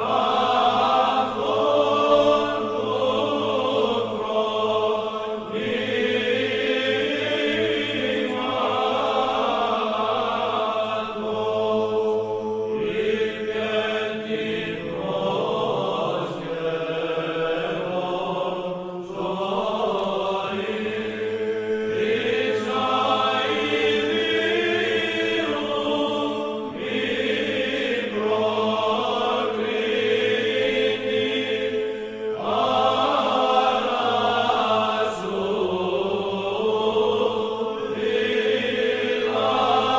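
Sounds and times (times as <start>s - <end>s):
choir holding long notes: 0.0s - 39.9s.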